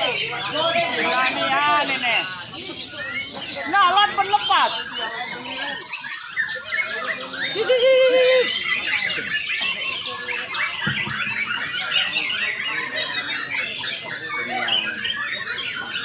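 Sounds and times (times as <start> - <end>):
chorus of songbirds whistling: 0.0 - 16.0.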